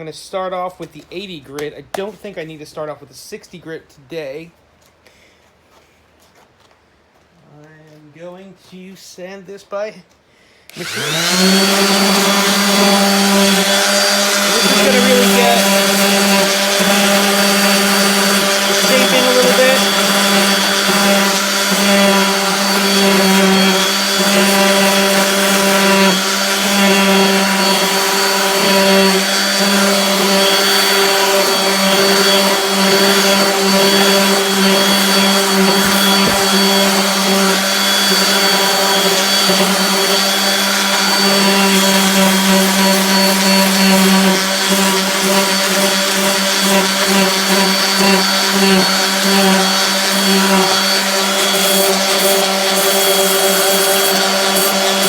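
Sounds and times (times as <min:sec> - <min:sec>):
sander motor hum and whine: 0:10.7 - 0:55.0
sanding wood: 0:10.7 - 0:55.0.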